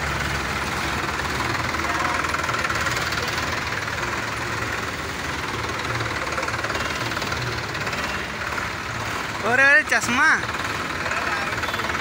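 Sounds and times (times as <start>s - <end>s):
tractor diesel engines chugging: 0.0s - 12.0s.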